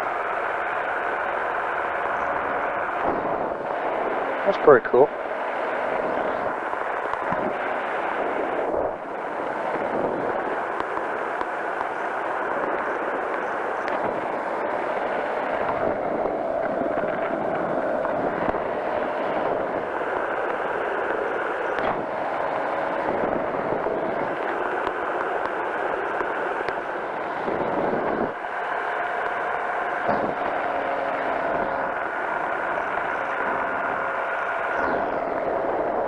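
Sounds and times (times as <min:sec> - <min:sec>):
engine and propeller running: 0:00.0 - 0:36.0
faint steady hum: 0:00.0 - 0:36.0.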